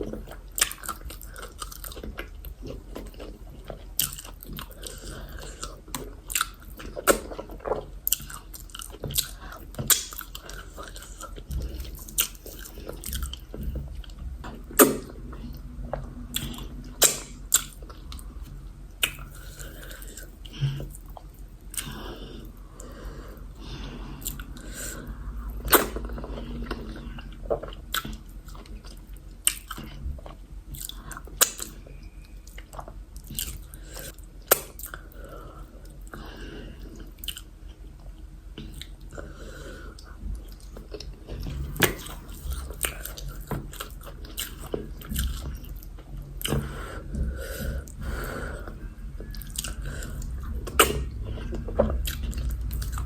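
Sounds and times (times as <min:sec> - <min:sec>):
chewing and biting food: 0:00.0 - 0:22.2, 0:24.1 - 0:35.1, 0:36.8 - 0:39.2, 0:39.9 - 0:48.0, 0:48.6 - 0:53.0.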